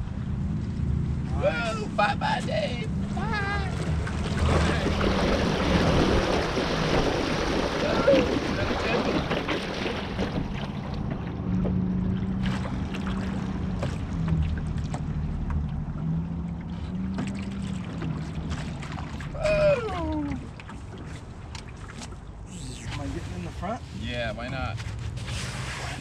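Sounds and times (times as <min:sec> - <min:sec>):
wind: 0:00.0 - 0:26.0
water lapping at hull: 0:01.1 - 0:26.0.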